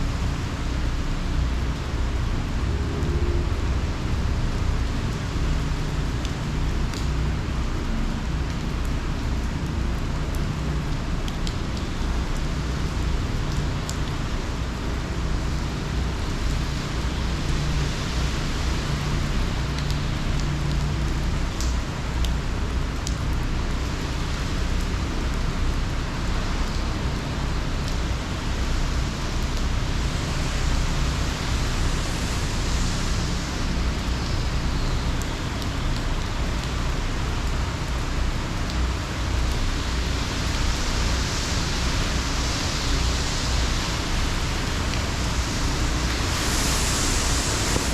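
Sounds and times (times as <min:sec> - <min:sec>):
heavy rain: 0:00.0 - 0:47.9
wind: 0:00.0 - 0:47.9.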